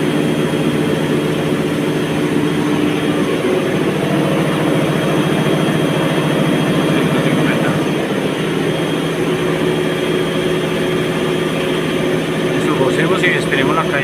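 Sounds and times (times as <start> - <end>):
washing machine drum spinning: 0.0 - 14.0.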